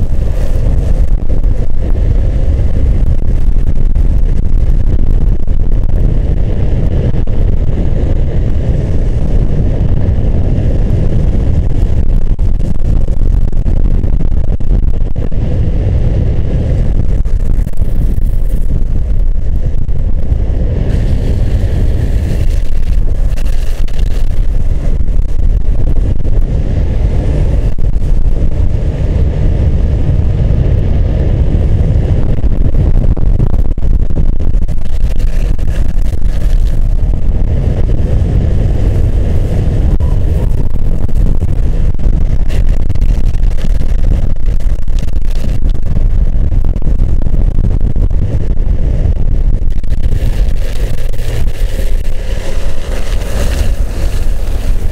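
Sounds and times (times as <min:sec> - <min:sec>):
wheels rolling on asphalt: 0:00.0 - 0:54.9
wind buffeting microphone: 0:00.0 - 0:54.9.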